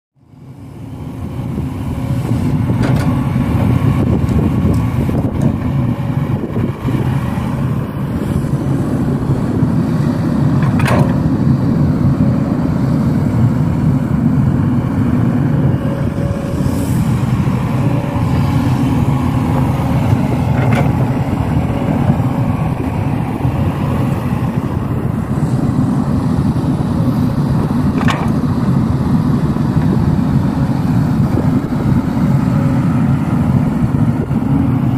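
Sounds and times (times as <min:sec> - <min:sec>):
motor vehicle rumbling: 0:00.2 - 0:34.9.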